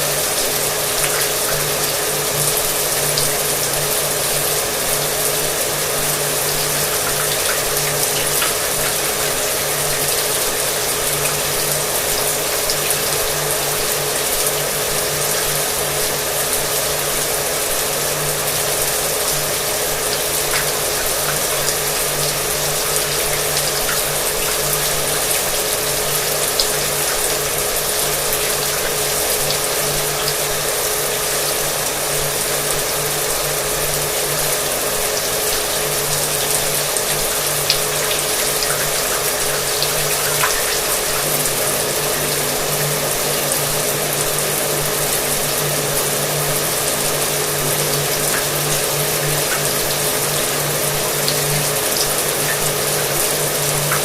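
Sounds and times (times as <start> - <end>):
shower water running: 0.0 - 54.0.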